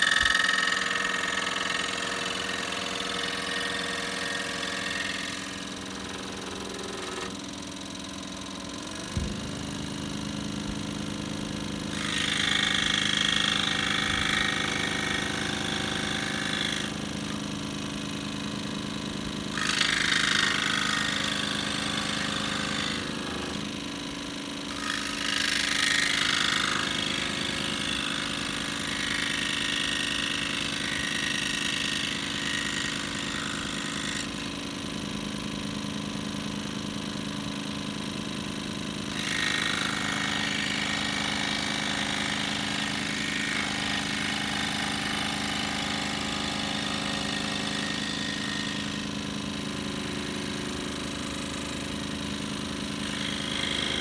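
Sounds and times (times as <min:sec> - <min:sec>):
scroll saw cutting wood: 0:00.0 - 0:35.5, 0:39.0 - 0:54.0
saw motor hum: 0:00.0 - 0:54.0.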